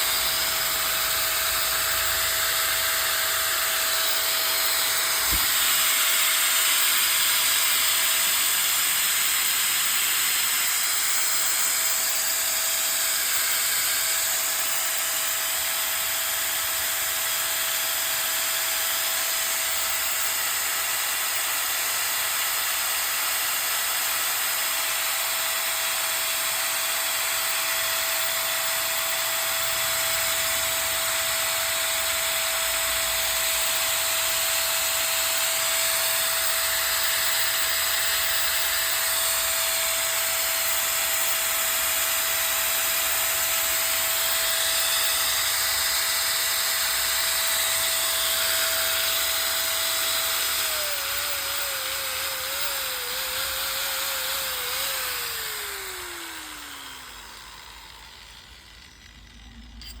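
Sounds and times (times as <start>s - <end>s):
angle grinder whining: 0.0s - 60.0s
angle grinder winding down: 0.0s - 60.0s.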